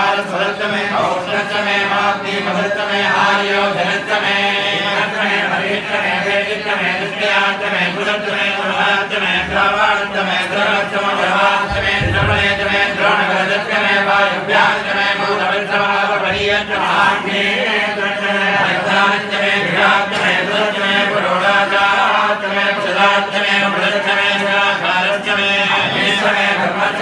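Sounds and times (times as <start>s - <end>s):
group of men chanting: 0.0s - 27.0s.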